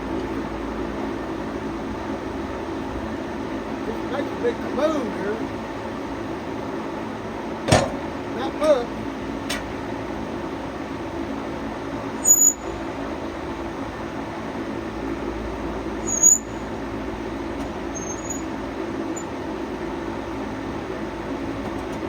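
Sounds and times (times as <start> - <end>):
sawmill engine droning: 0.0 - 22.0.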